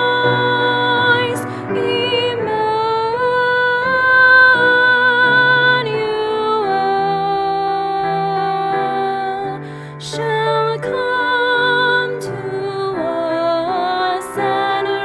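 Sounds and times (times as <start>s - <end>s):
woman singing a hymn: 0.0s - 15.0s.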